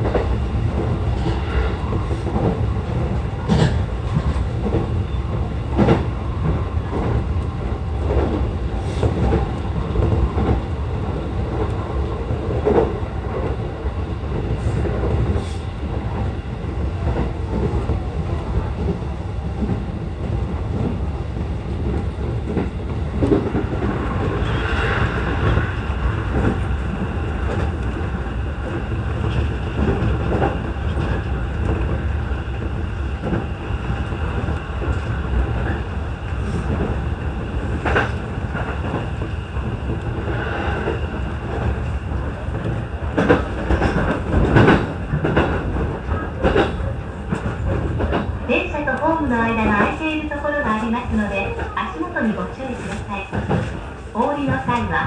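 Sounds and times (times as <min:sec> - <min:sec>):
rail joint clicks: 0:00.0 - 0:55.0
train wheels rumbling on rail: 0:00.0 - 0:55.0.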